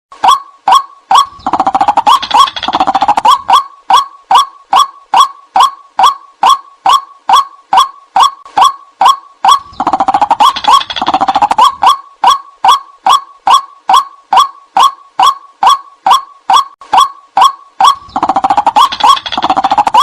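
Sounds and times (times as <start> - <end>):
harsh bird chattering: 0.2 - 20.0
waterhen calling: 0.2 - 20.0.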